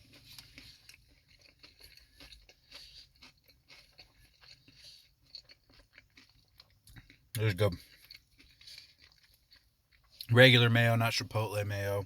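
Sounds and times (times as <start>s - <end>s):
chewing crunchy fried food: 0.0s - 12.0s.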